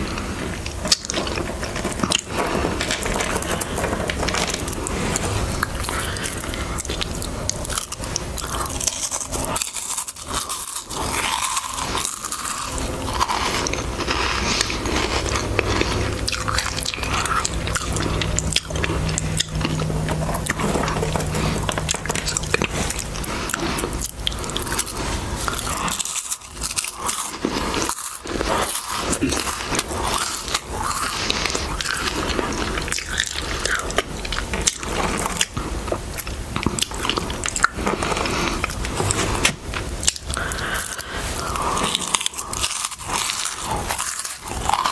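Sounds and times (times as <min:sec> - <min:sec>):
crisps crunching: 0:00.0 - 0:44.9.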